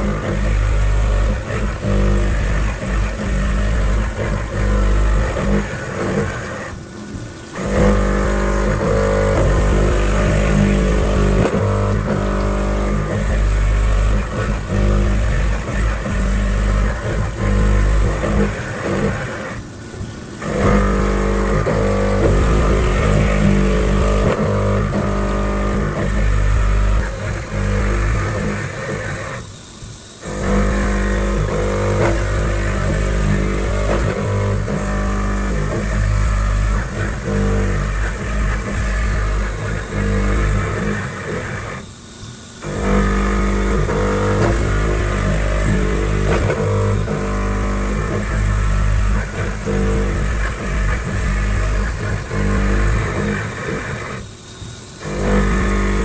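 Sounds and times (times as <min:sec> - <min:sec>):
background music with heavy bass: 0:00.0 - 0:06.7, 0:07.5 - 0:19.5, 0:20.4 - 0:29.4, 0:30.2 - 0:41.8, 0:42.6 - 0:54.2, 0:55.0 - 0:56.0.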